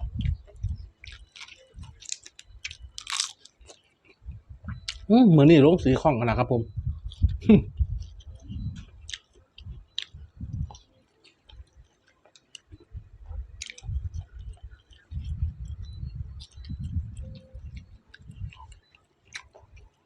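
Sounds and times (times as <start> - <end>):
person chewing food: 0.0 - 5.1, 6.8 - 20.0.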